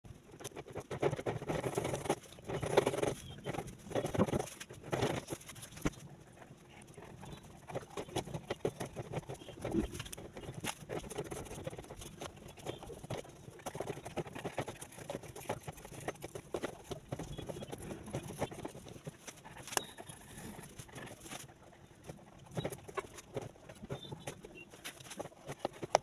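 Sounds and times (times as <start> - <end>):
markers scratching on paper: 0.3 - 26.0.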